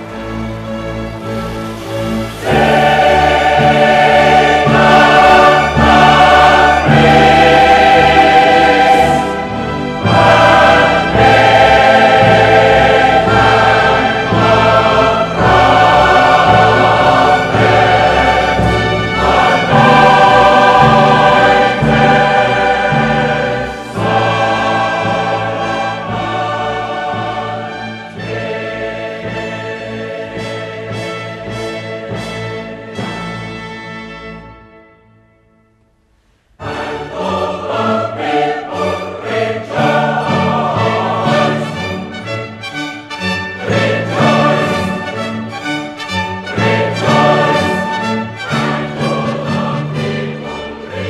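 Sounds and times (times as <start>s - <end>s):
choir singing held chords: 0.0s - 34.9s, 35.8s - 51.0s.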